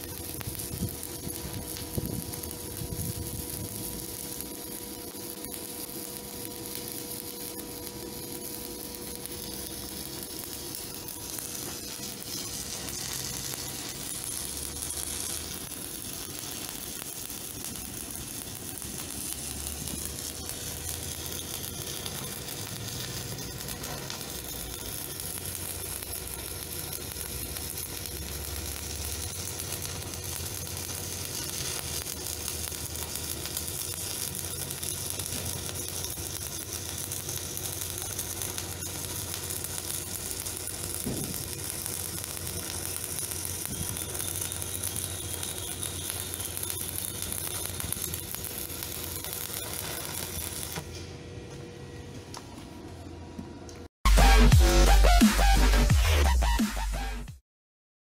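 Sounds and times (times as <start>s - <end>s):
welding arc hissing: 0.0s - 50.9s, 54.1s - 57.3s.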